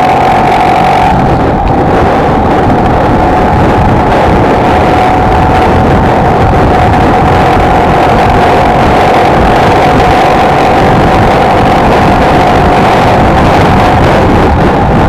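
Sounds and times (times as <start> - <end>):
motorcycle engine cruising: 0.0 - 15.0
rush of riding noise: 0.0 - 15.0.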